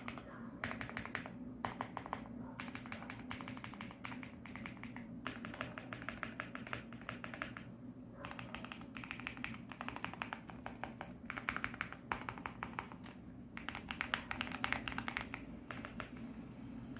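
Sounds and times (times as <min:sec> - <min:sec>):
mechanical keyboard typing: 0:00.0 - 0:16.3.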